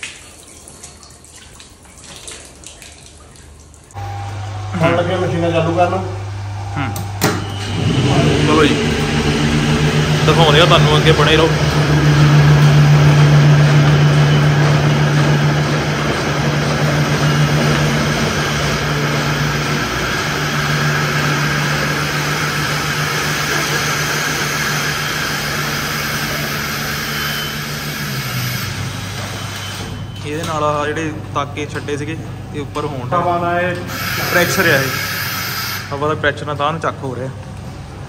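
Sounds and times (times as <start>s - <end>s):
machine humming: 3.9s - 36.8s.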